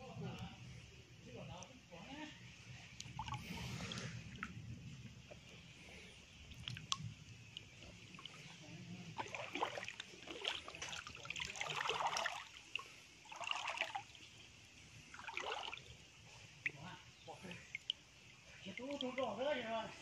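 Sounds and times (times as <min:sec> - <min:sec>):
stream water trickling: 0:00.0 - 0:20.0
water splashing: 0:02.7 - 0:19.7.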